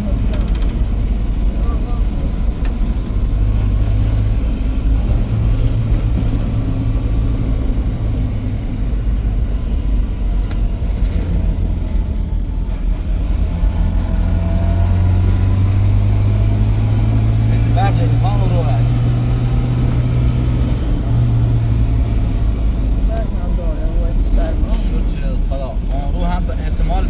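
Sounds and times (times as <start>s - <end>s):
car driving: 0.0s - 27.0s.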